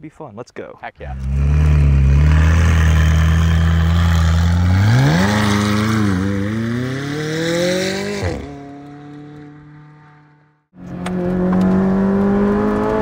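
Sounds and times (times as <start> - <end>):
car engine revving: 1.1 - 13.0.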